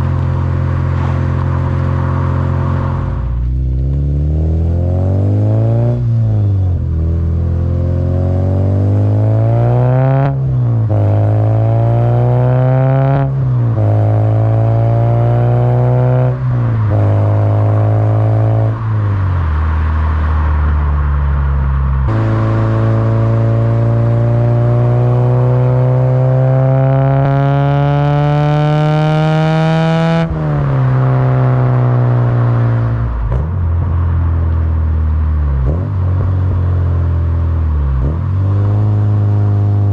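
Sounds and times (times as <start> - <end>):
car engine accelerating through gears: 0.0 - 21.1, 21.9 - 39.9.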